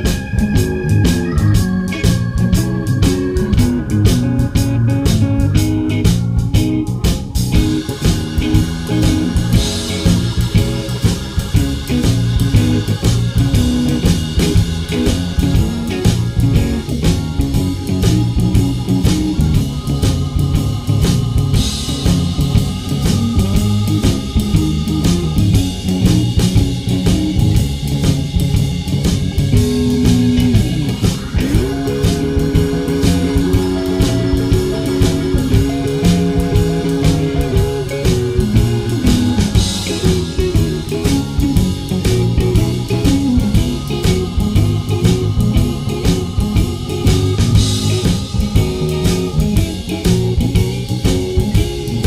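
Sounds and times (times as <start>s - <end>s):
rock blues guitar: 0.0s - 52.0s
steady drum beat: 0.0s - 52.0s.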